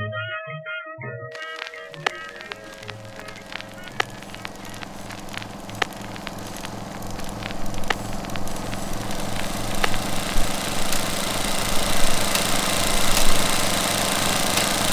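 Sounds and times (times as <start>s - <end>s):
crackles and pops: 1.3s - 14.9s
hiss: 1.4s - 14.9s
pulsing low hum: 1.6s - 14.9s.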